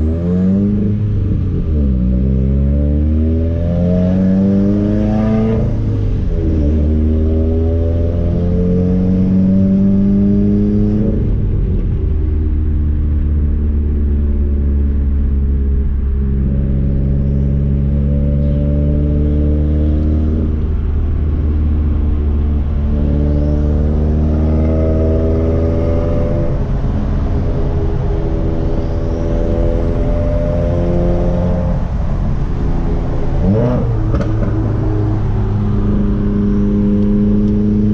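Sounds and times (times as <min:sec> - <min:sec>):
car exhaust note while driving: 0:00.0 - 0:37.9.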